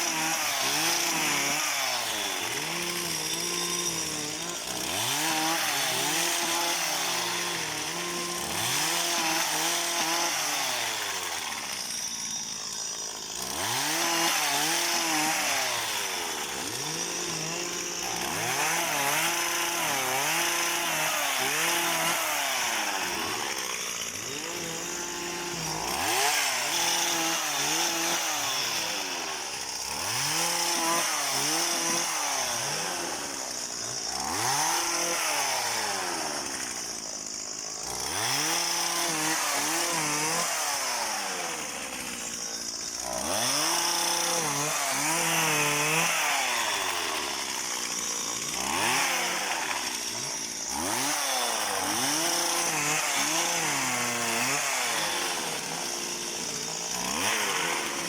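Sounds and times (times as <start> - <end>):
small petrol engine revving: 0.0 - 11.9, 12.5 - 58.0.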